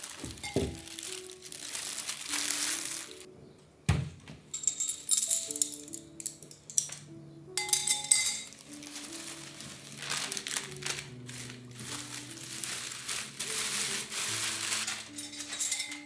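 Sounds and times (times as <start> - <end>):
crinkling and rustling: 0.0 - 3.3, 4.0 - 16.0
soft background music: 0.0 - 16.0.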